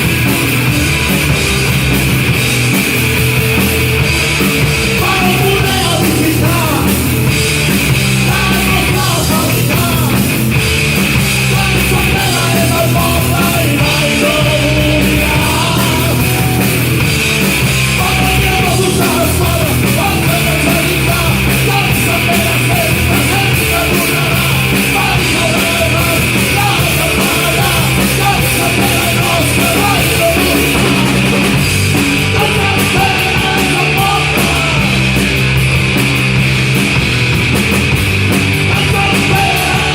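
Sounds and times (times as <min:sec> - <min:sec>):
punk rock band playing live: 0:00.0 - 0:39.9.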